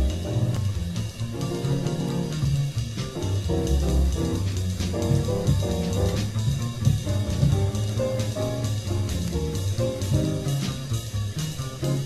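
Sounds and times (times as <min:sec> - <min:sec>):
jazz music: 0:00.0 - 0:12.0.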